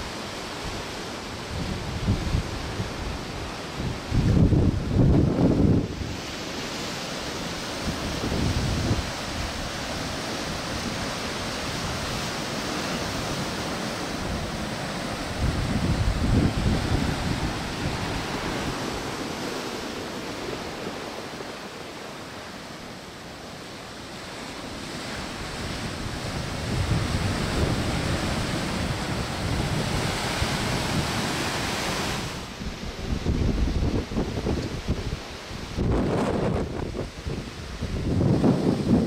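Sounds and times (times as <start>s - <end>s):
wind buffeting microphone: 0.0s - 6.7s, 7.4s - 21.6s, 24.7s - 39.0s
ocean surf breaking: 0.0s - 39.0s.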